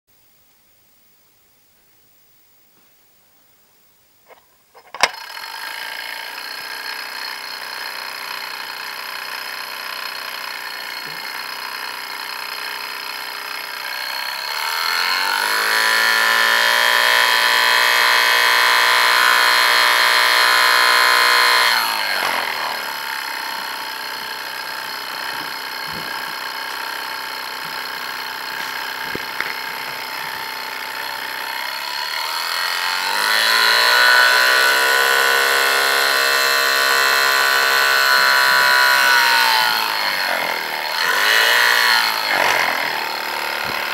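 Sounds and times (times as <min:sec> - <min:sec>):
small electric motor running: 0:04.3 - 0:43.9.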